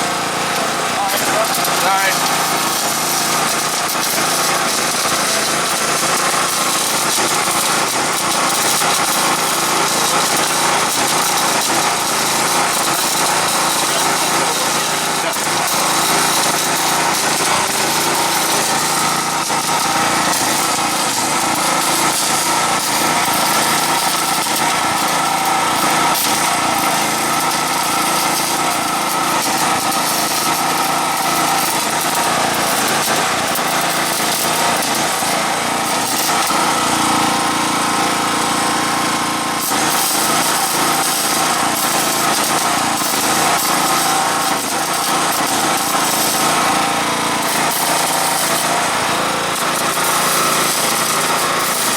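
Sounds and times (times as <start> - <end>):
machine running with crackle: 0.0 - 51.9.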